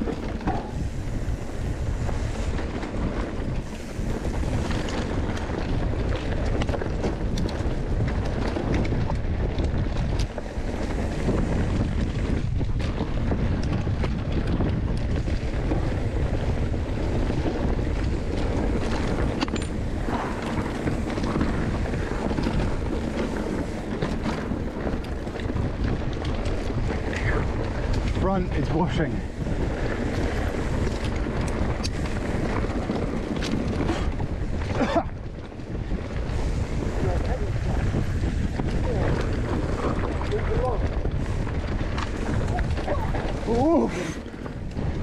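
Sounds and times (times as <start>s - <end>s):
bike rattling over bumps: 0.0s - 45.0s
tyres rumbling on dirt: 0.0s - 45.0s
wind rushing over microphone: 0.0s - 45.0s.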